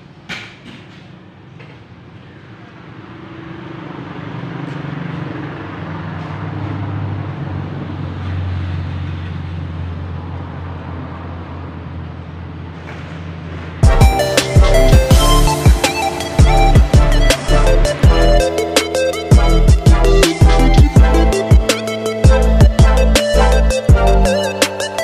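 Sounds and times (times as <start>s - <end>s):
vehicle engine humming: 2.6s - 25.0s.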